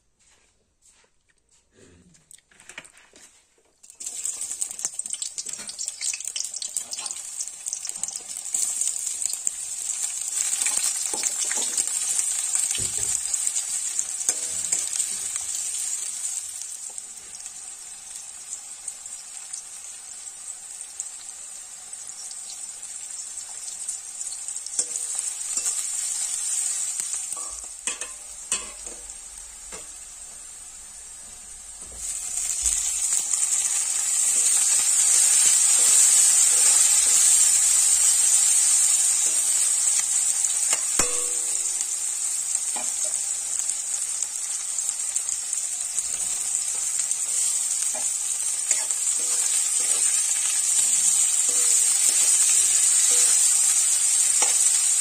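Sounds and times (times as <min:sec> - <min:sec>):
onions sizzling in hot oil: 0:03.8 - 0:55.0.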